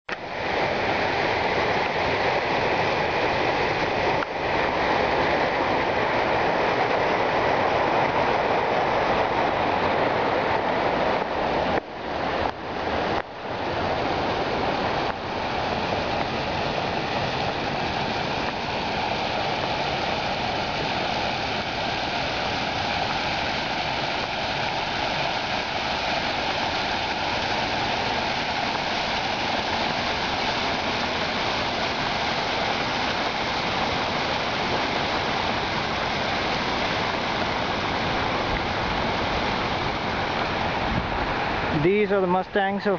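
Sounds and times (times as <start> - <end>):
fountain water splashing: 0.1 - 42.9.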